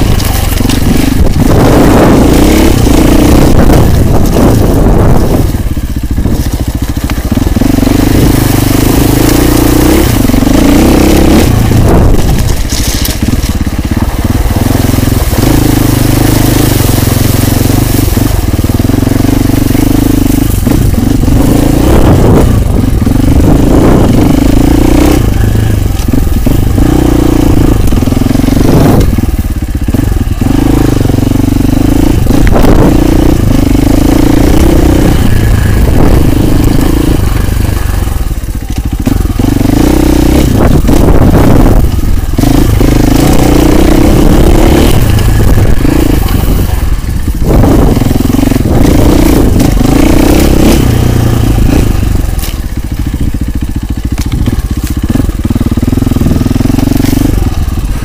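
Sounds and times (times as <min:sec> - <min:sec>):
motorcycle knocks and clatter: 0:00.0 - 0:16.9, 0:17.7 - 0:58.0
motorcycle engine revving: 0:00.0 - 0:58.0.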